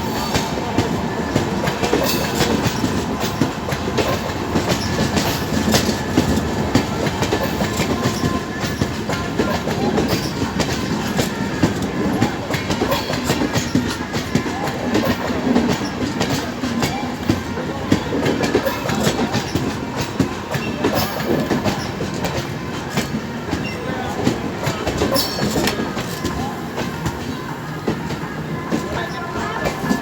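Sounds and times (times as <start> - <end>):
train wheels clickety-clack: 0.0 - 30.0.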